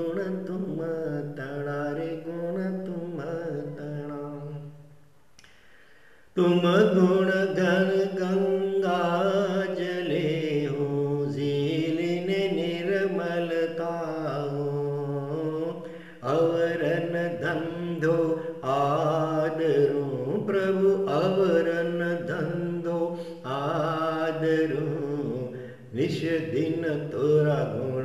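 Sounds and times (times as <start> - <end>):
person chanting a hymn: 0.0 - 4.7, 6.4 - 28.0.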